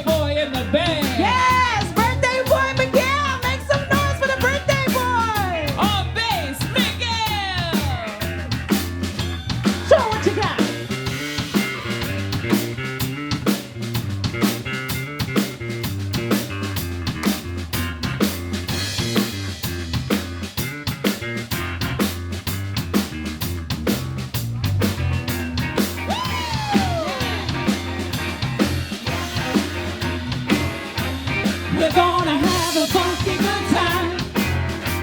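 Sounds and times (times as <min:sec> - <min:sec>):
drum kit groove: 0:00.0 - 0:35.0
electric bass solo: 0:00.0 - 0:35.0.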